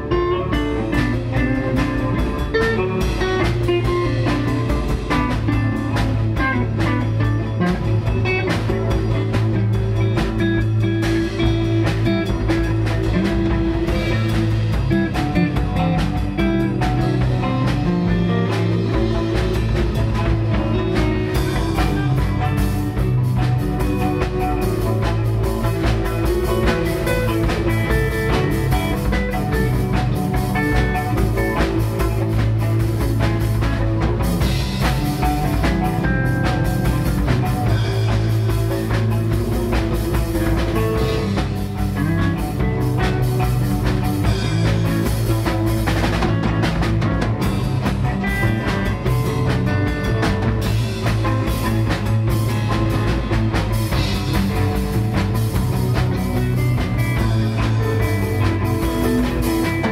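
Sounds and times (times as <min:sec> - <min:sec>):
drum kit steady beat: 0:00.0 - 0:59.9
rock band playing: 0:00.0 - 0:59.9.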